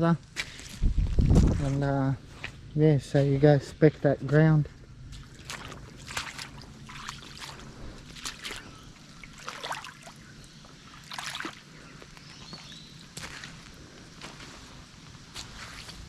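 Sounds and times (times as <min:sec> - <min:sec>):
low steady hiss: 0:00.0 - 0:16.0
footsteps crunching on gravel: 0:00.3 - 0:09.9, 0:10.6 - 0:16.0.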